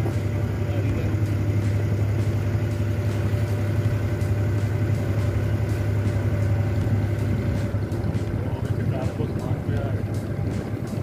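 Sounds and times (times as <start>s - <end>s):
boat diesel engine drone: 0.0s - 11.0s.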